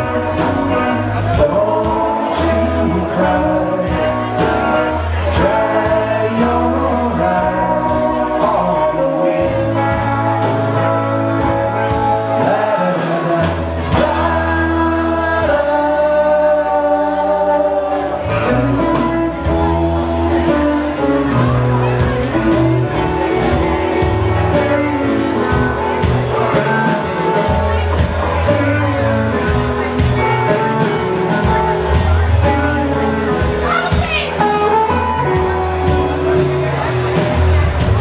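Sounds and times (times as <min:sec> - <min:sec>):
person singing: 0:00.0 - 0:38.0
rock band playing: 0:00.0 - 0:38.0.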